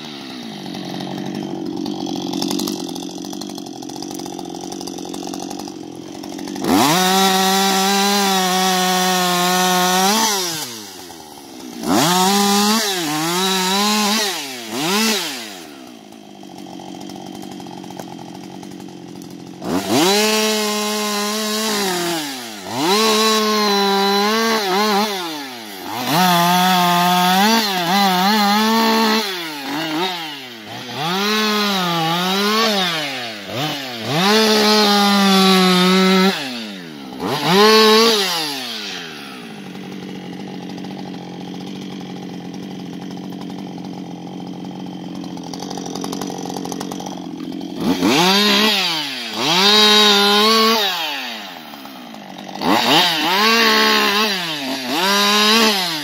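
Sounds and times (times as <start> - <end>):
chainsaw sawing wood: 0.0 - 56.0.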